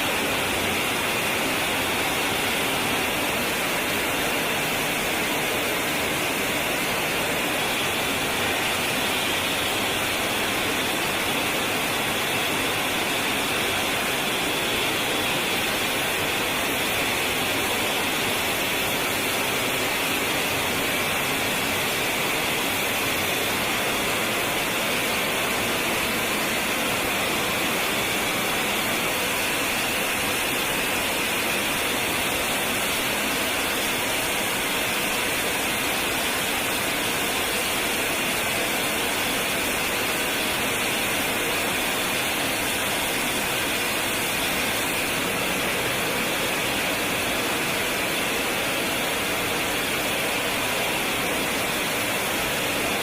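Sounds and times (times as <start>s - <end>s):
jet engine hiss and whine: 0.0s - 53.0s.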